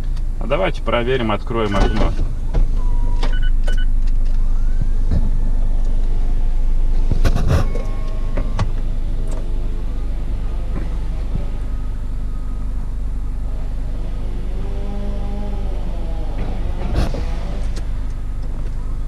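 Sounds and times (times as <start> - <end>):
car engine and road rumble: 0.0 - 19.0
electric window motor whine: 1.5 - 19.0.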